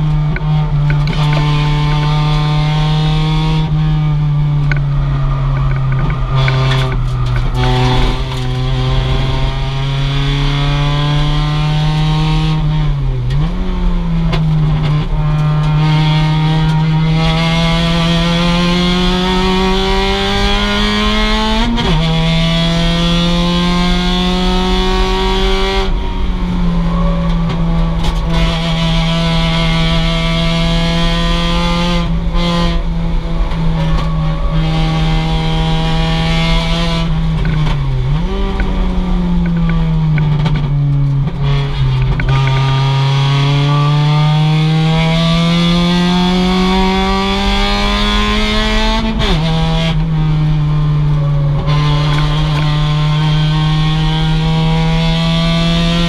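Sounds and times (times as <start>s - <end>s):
car engine revving under load: 0.0s - 56.0s.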